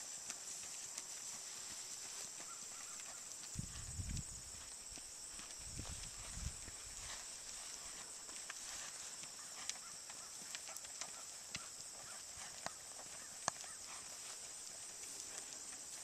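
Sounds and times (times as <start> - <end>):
hoofbeats on dirt: 0.0 - 16.0.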